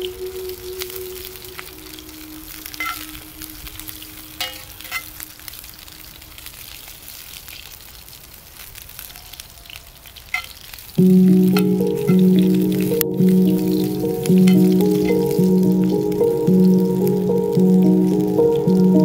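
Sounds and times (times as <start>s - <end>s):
peppers sizzling in a pan: 0.0s - 19.0s.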